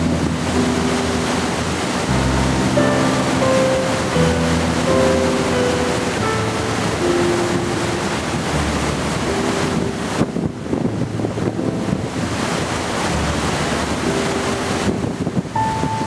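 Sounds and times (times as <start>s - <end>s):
rushing water: 0.0s - 16.0s
wind buffeting microphone: 0.0s - 16.0s.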